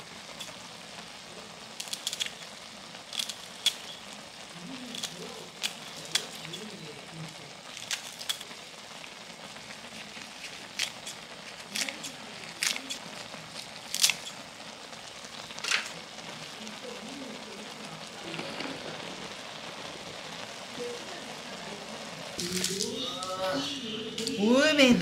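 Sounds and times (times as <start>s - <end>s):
broth boiling with bubbling hiss: 0.0s - 25.0s.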